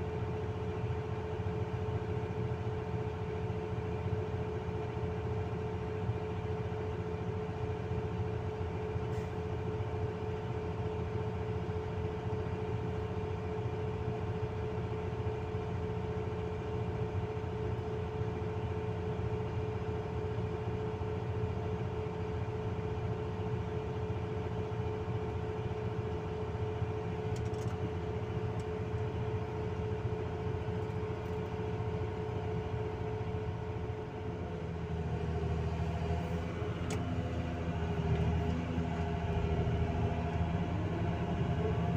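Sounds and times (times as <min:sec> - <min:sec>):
excavator engine drone: 0:00.0 - 0:41.9.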